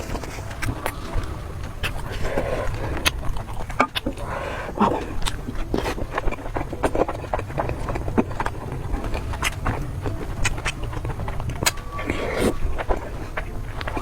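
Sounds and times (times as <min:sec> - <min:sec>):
chewing and crunching food: 0:00.0 - 0:14.0
low rumble: 0:00.0 - 0:14.0.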